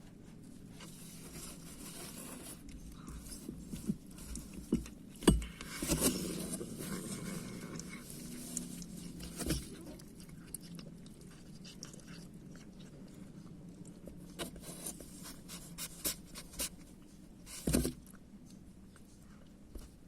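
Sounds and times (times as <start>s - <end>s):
cats chewing food: 0.0s - 20.0s.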